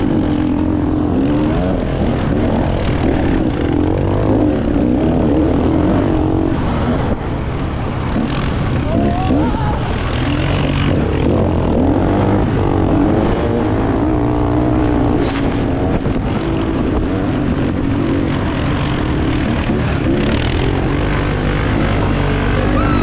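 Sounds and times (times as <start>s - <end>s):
motorbike engines revving: 0.0s - 23.0s.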